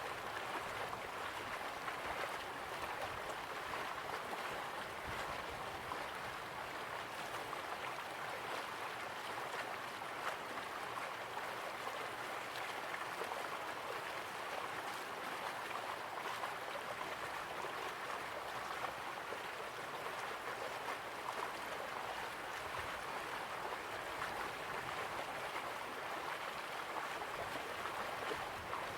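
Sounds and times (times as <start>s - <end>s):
flowing water: 0.0s - 28.9s.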